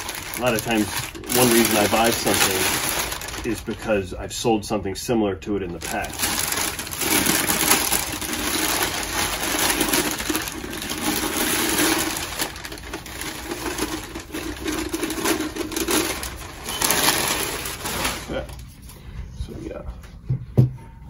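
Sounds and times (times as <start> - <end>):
packing paper crackling: 0.0 - 4.1, 5.7 - 18.8.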